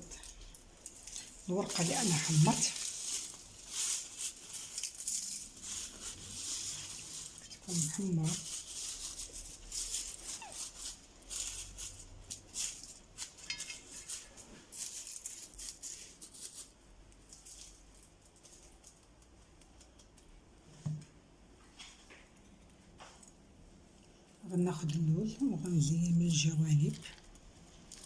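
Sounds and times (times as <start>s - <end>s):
pastry crackling and rustling: 0.0s - 20.9s, 21.6s - 28.0s.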